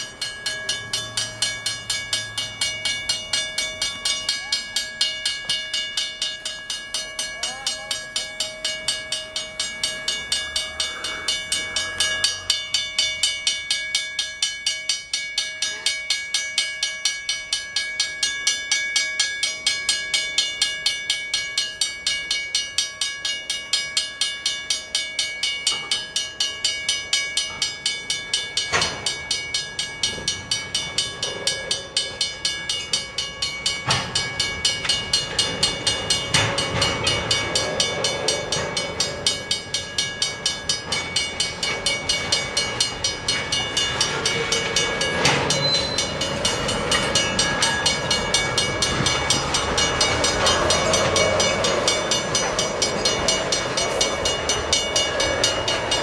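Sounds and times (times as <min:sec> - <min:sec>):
crossing signal bell ringing: 0:00.0 - 0:56.0
freight train rolling: 0:00.0 - 0:56.0
wheels clanking over rail joints: 0:00.0 - 0:56.0.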